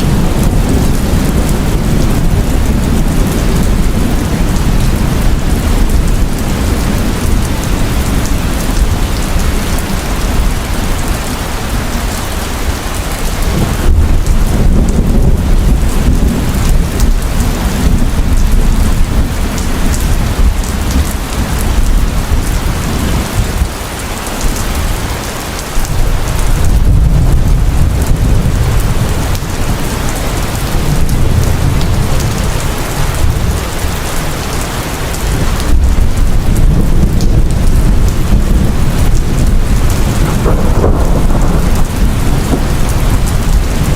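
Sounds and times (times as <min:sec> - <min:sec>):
heavy rain pouring: 0:00.0 - 0:43.9
low rolling thunder: 0:00.0 - 0:43.9.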